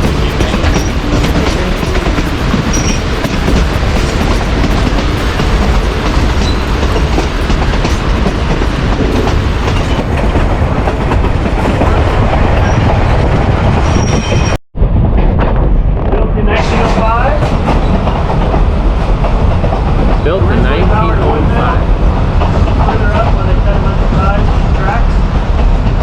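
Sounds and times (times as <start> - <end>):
train wheels clattering over rails: 0.0 - 26.0.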